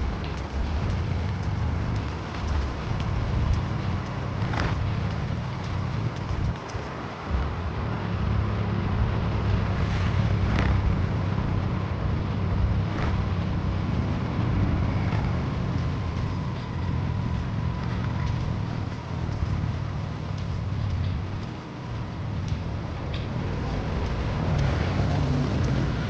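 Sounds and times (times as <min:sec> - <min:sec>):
road rumble: 0:00.0 - 0:26.0
wind buffeting microphone: 0:00.0 - 0:26.0.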